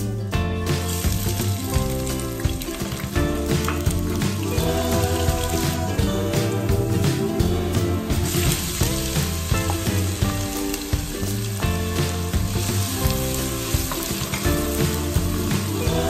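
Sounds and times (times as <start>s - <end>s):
background music: 0.0s - 16.0s
onion sizzling in hot oil: 0.0s - 16.0s.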